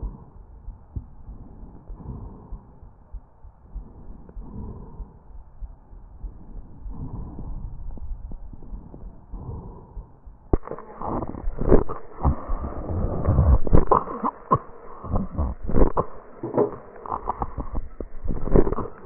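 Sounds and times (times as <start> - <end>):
crackling breath sounds: 0.0 - 19.0.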